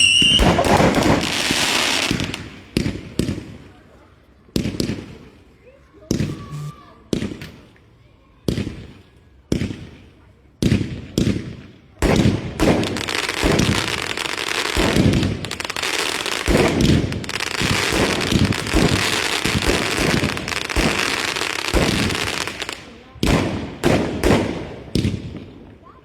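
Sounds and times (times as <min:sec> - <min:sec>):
fireworks bangs and crackling: 0:00.0 - 0:03.8, 0:04.6 - 0:05.3, 0:06.1 - 0:07.7, 0:08.4 - 0:26.0.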